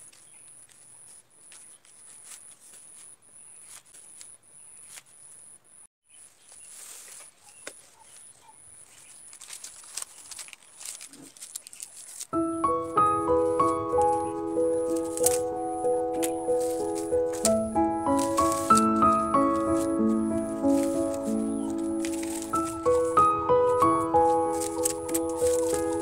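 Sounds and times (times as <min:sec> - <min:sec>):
palm leaf strips rustling: 0:00.0 - 0:05.3, 0:06.1 - 0:26.0.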